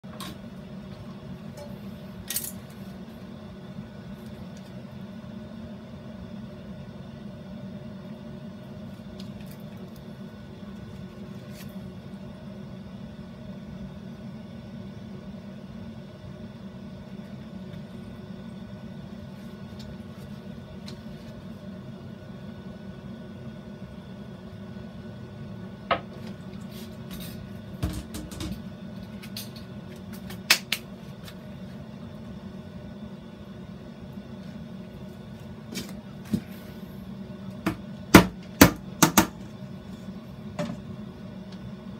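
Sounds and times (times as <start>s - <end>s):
low background hum: 0.0s - 41.9s.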